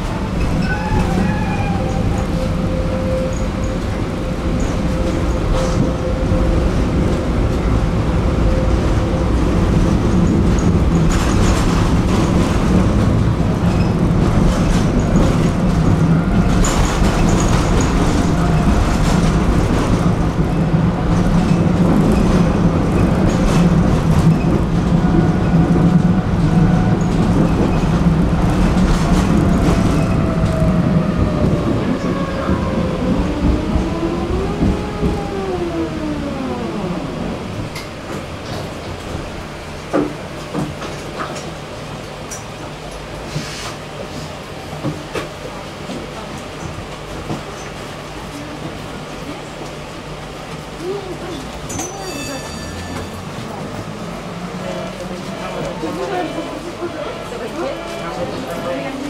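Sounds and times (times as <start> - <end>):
rail clicks and knocks: 0.0 - 35.6, 37.4 - 43.9, 44.7 - 59.0
tram wheels rumbling on rail: 0.0 - 59.0.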